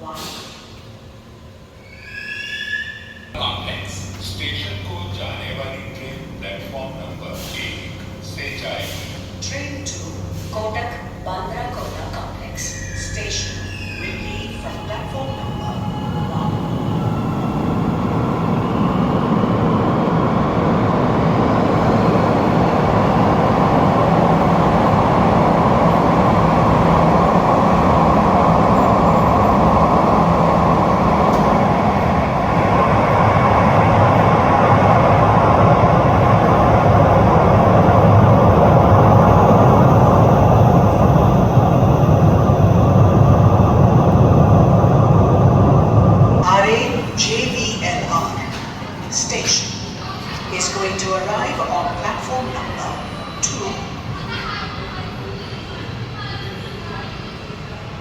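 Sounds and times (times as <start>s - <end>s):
underground train running: 0.0s - 58.0s.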